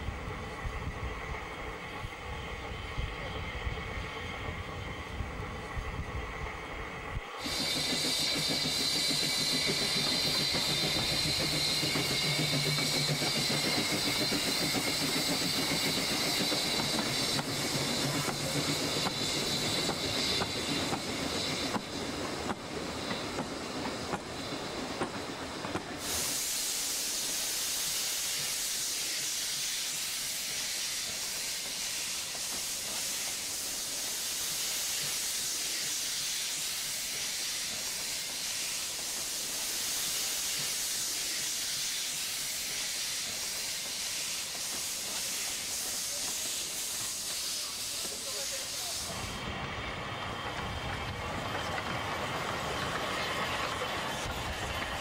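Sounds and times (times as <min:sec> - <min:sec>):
steam train passing: 0:00.0 - 0:55.0
even hiss: 0:00.1 - 0:55.0.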